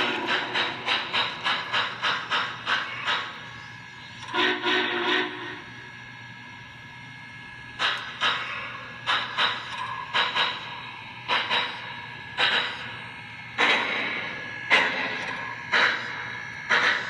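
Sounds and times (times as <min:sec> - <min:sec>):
model steam locomotive chuffs: 0:00.0 - 0:17.0.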